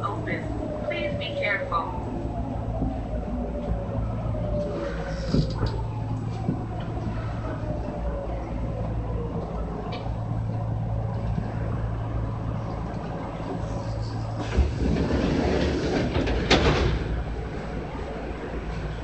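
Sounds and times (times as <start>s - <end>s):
train interior hum and rolling: 0.0s - 19.0s.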